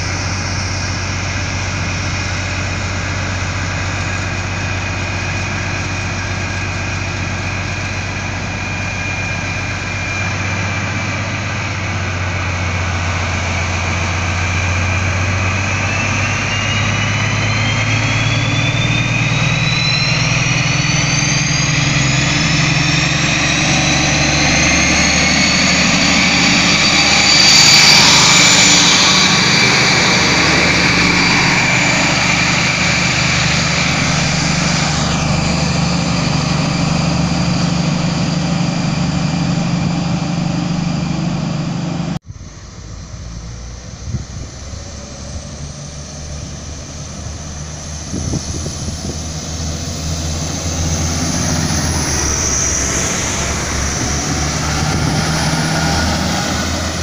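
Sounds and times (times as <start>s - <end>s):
diesel locomotive engine whine: 0.0s - 57.0s
steady engine drone: 0.0s - 57.0s.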